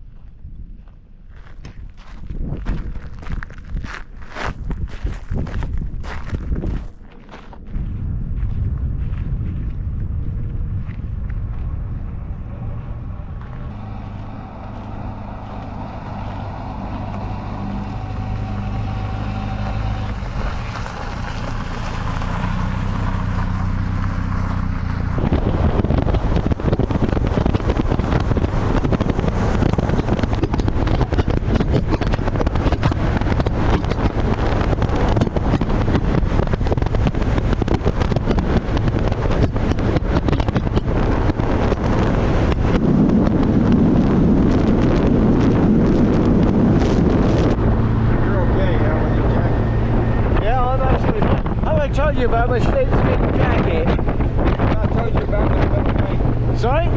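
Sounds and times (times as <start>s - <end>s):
wind buffeting microphone: 0.0s - 56.9s
car engine driving off: 7.2s - 56.9s.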